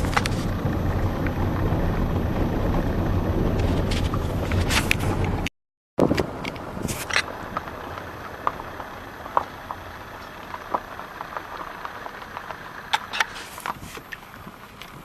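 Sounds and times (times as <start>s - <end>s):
vehicle engine idling: 0.0s - 5.5s, 6.2s - 15.0s.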